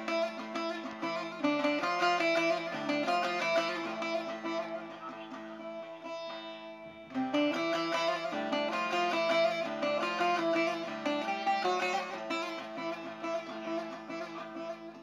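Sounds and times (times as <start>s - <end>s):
long-necked lute plucked and strummed: 0.0s - 15.0s.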